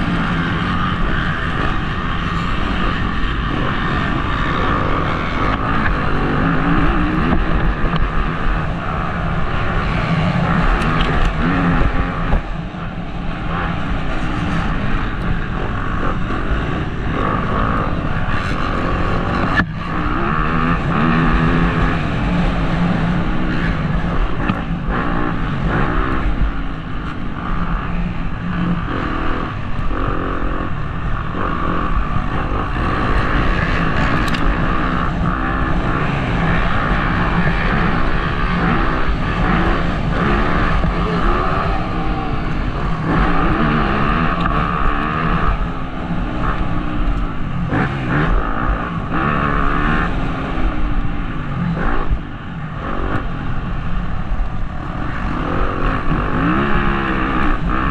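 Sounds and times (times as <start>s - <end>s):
motocross bike engine revving: 0.0s - 57.9s.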